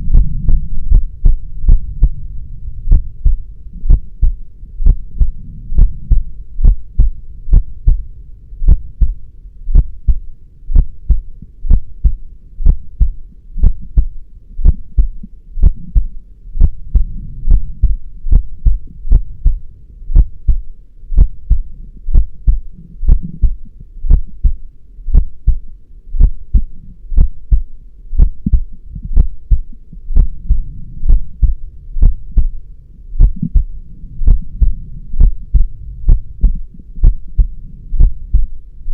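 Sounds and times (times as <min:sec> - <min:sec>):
heartbeat thumps: 0:00.0 - 0:32.6, 0:33.2 - 0:38.6
low rumbling hum: 0:00.0 - 0:38.9.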